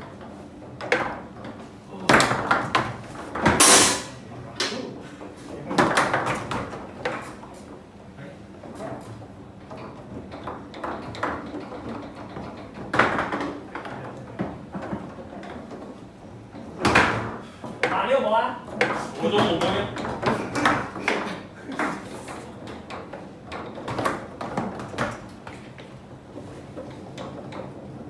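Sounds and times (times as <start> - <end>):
foosball ball and rods clacking: 0.0 - 28.0.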